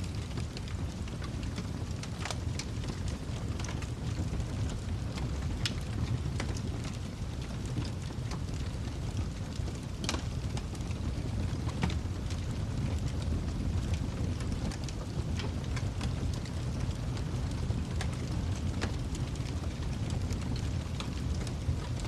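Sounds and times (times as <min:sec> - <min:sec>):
fire popping: 0:00.0 - 0:22.0
low rumble of flames: 0:00.0 - 0:22.0
wood fire crackling: 0:00.0 - 0:22.0.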